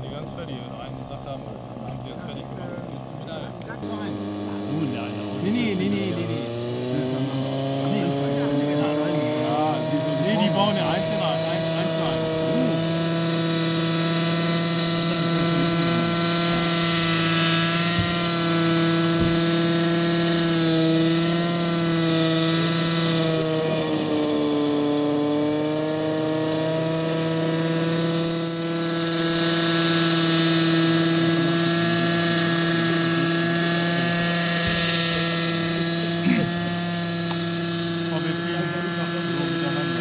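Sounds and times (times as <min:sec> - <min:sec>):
model helicopter hovering: 0:00.0 - 0:40.0.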